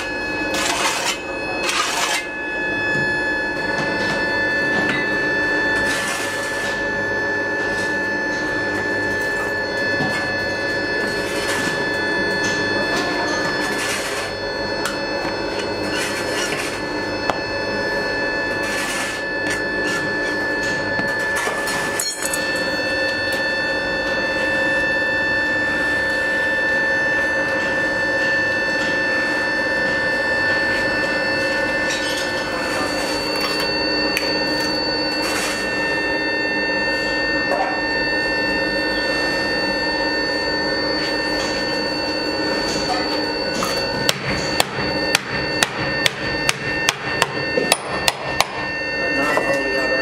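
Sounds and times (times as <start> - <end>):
steady humming drone: 0.0 - 50.0.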